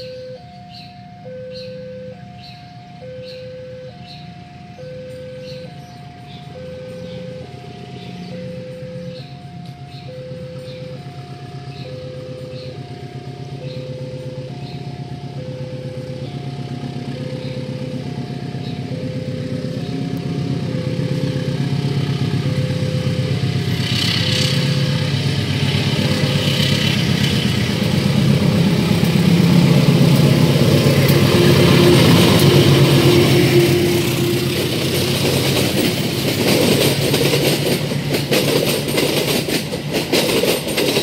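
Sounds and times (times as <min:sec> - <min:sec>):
two-note warning alarm: 0:00.0 - 0:35.1
diesel locomotive engine: 0:00.0 - 0:41.0
wheels rumbling on rails: 0:00.0 - 0:41.0.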